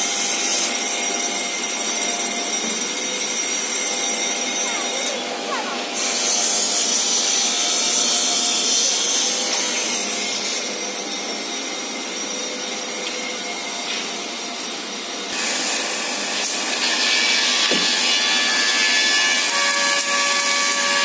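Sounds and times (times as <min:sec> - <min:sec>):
woodworking machinery whirring: 0:00.0 - 0:21.0.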